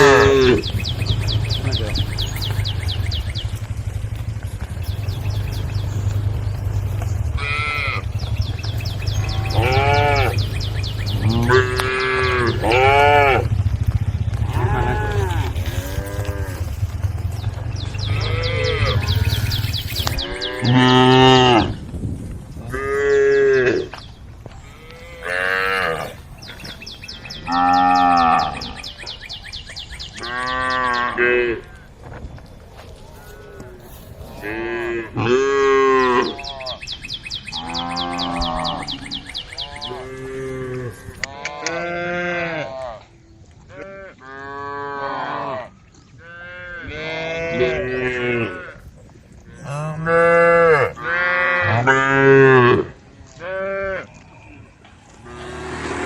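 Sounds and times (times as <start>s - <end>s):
cows mooing: 0.0s - 21.8s, 22.6s - 32.0s, 32.8s - 43.1s, 43.7s - 56.0s.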